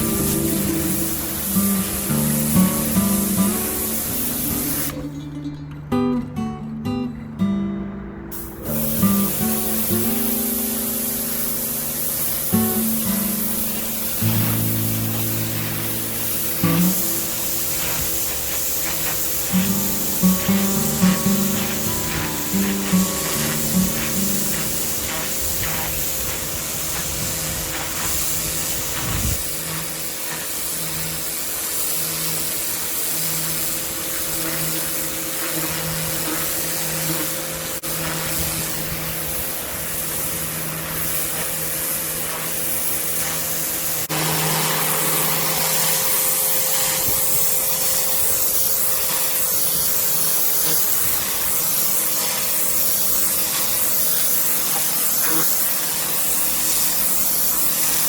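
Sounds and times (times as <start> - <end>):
pump motor hum: 0.0 - 5.1, 8.7 - 57.8
pressure washer spraying paving: 0.0 - 7.6, 8.3 - 58.0.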